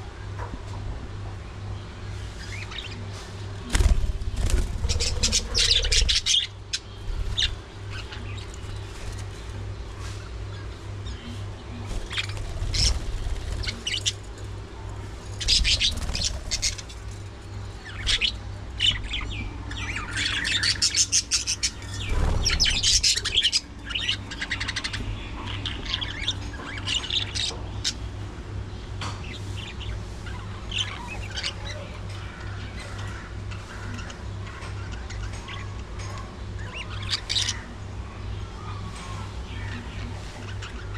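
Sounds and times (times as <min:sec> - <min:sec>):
steady low hum: 0:00.0 - 0:40.9
budgerigars chirping and chattering: 0:02.2 - 0:14.3, 0:15.1 - 0:40.9.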